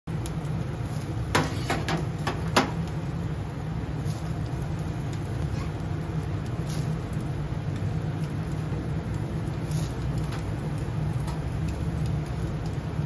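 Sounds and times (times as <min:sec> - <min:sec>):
meat skewers crackling on grill: 0:00.1 - 0:13.0.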